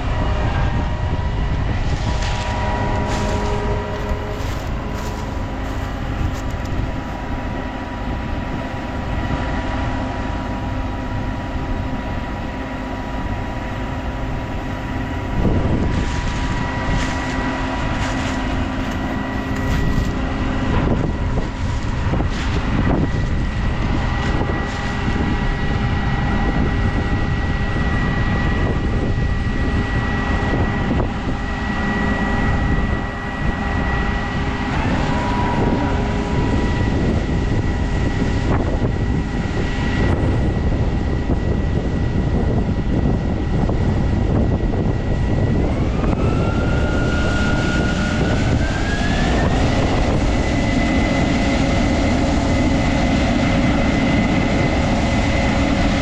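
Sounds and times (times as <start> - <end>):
combine harvester drone: 0.0 - 56.0
machine whine rising: 0.0 - 56.0.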